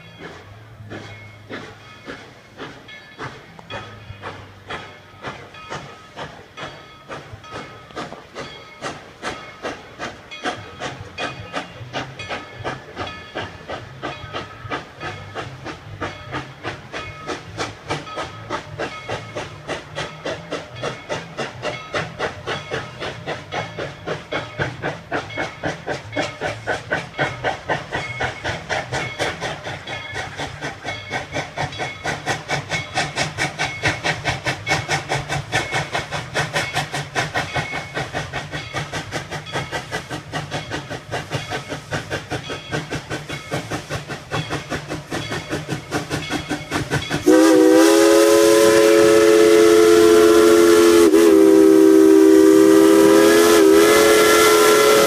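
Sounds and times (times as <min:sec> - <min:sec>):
steam hissing: 0:00.0 - 0:55.0
steam locomotive chuffing: 0:00.0 - 0:55.0.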